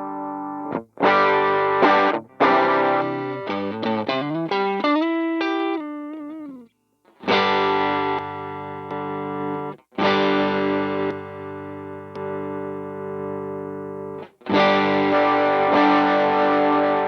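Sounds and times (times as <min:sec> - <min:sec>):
overdriven electric guitar: 0:00.0 - 0:17.0.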